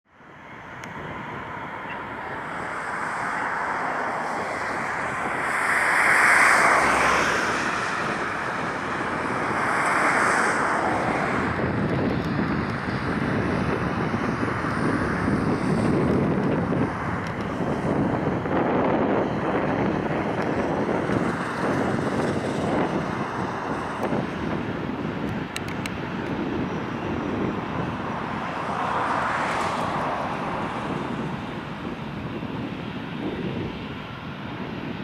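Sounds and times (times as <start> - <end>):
distant jet engines rushing: 0.1 - 35.0
wind buffeting microphone: 0.2 - 35.0.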